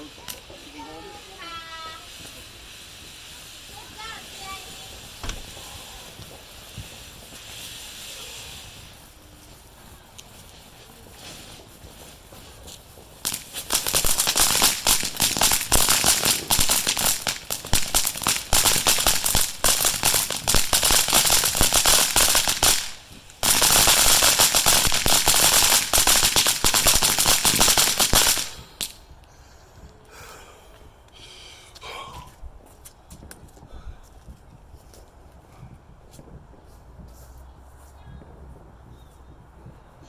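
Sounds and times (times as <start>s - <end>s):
firecrackers crackling: 0.0s - 37.4s.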